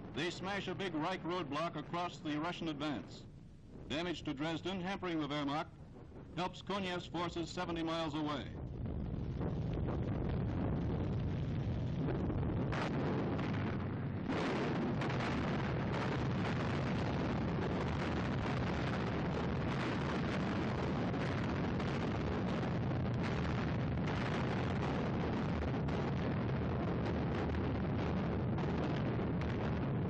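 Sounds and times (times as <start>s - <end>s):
rumble of bomb explosions: 0.0s - 30.0s.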